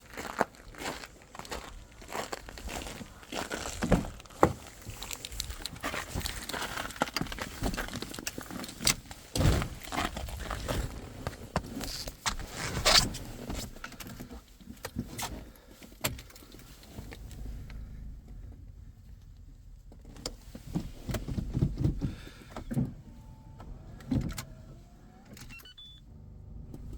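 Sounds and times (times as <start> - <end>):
handling clicks and rustling: 3.7 - 26.9.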